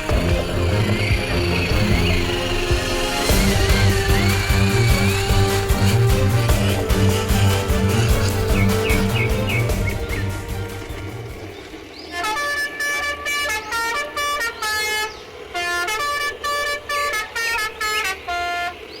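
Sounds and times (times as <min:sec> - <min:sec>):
horn toots playing tune: 0:00.0 - 0:11.5, 0:12.1 - 0:18.9
rumble of music: 0:00.0 - 0:19.0.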